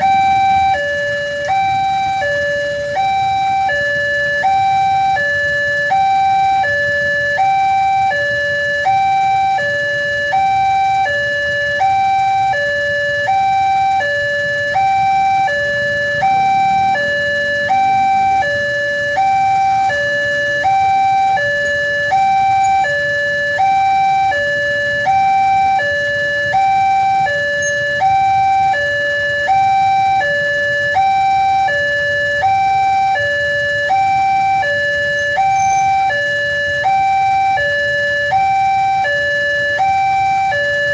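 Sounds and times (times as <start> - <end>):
level crossing two-tone alarm: 0.0 - 40.9.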